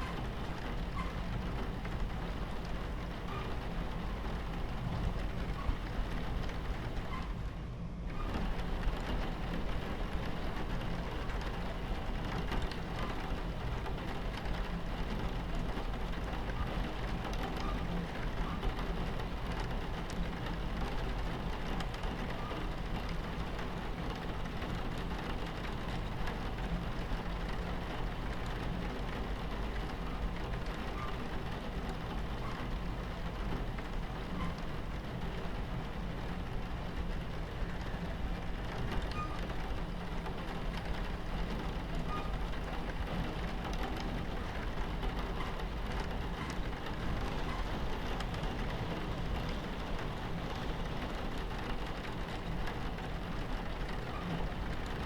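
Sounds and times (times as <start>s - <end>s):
rain against a train window: 0.0s - 55.0s
train rumbling on tracks: 0.0s - 55.0s.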